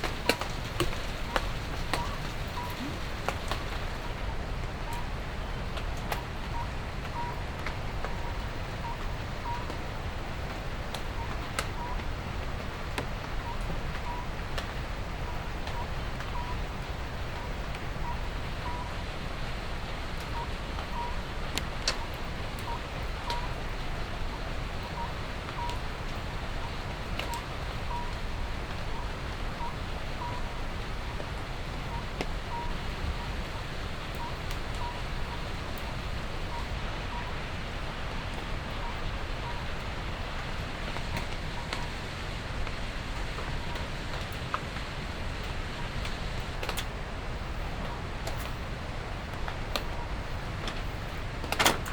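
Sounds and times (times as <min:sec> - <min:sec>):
steady rain: 0:00.0 - 0:51.9.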